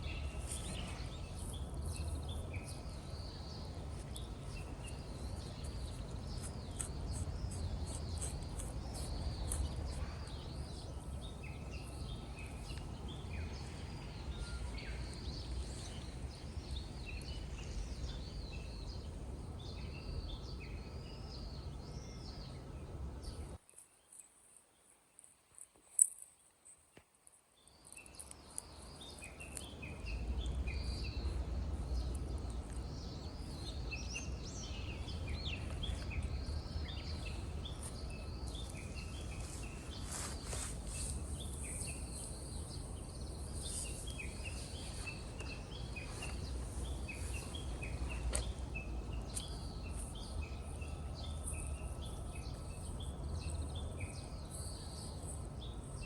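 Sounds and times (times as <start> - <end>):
birds chirping: 0.0 - 23.6, 27.8 - 56.0.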